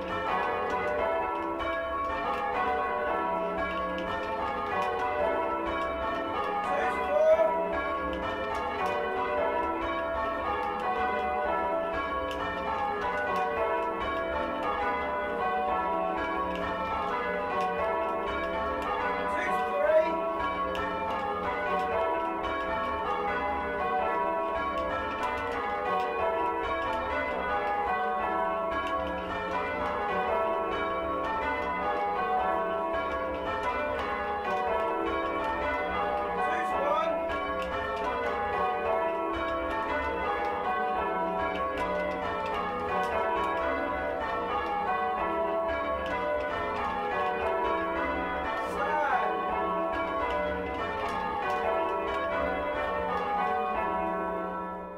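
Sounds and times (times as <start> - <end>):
church bells change ringing: 0.0 - 54.9.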